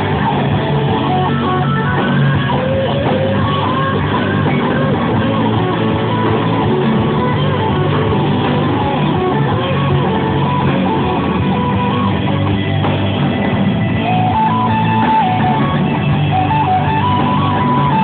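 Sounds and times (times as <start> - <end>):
drums: 0.0 - 18.0
electric guitars strumming: 0.0 - 18.0
lead melody line: 0.0 - 18.0.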